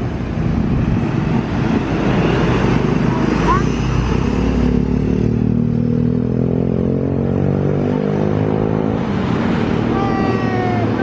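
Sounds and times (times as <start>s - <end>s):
bus diesel engine passing: 0.0s - 11.0s.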